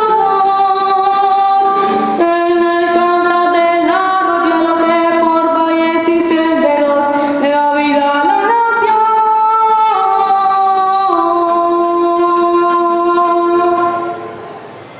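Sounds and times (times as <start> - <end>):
woman singing: 0.0 - 14.4.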